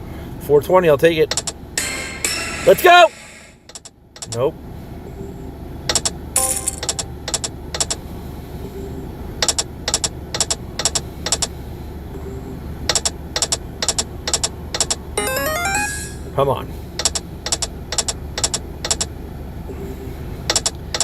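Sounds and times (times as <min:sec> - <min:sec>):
faint background hum: 0:00.0 - 0:21.0.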